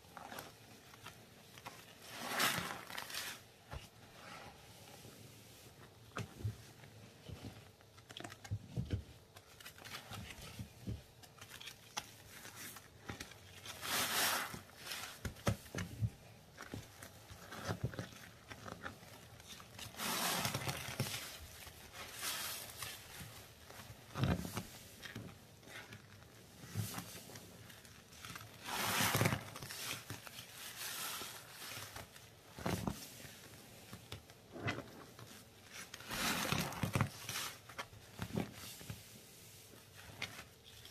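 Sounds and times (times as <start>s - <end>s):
wet sponges squishing: 0.0s - 40.9s.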